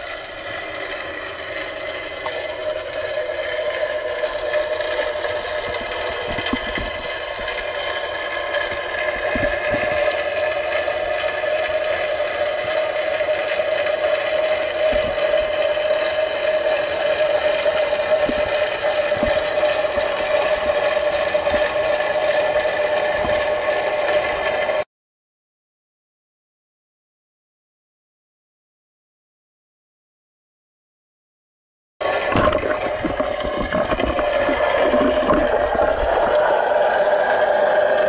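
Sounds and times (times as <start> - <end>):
motor hum with tones: 0.0 - 24.8, 32.0 - 38.0.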